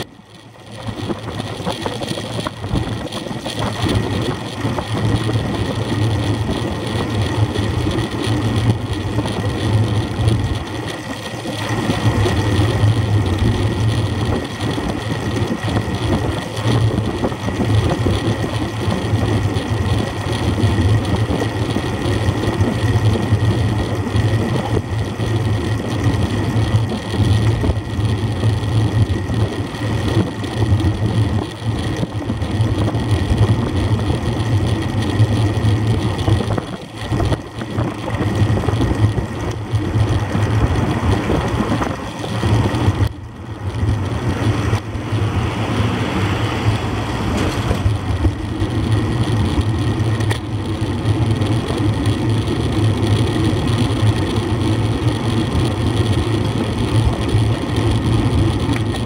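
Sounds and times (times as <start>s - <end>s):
bicycle road noise: 0.0s - 59.0s.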